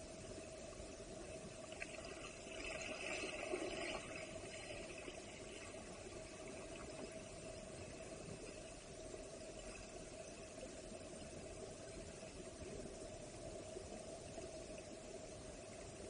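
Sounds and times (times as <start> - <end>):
underwater rush of flowing water: 0.0 - 16.0.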